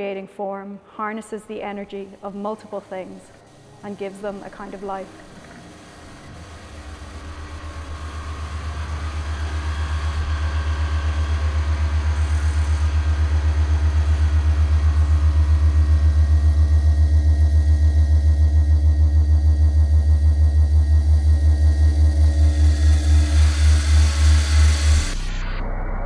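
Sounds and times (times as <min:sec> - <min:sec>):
low throbbing drone: 0:01.7 - 0:26.0.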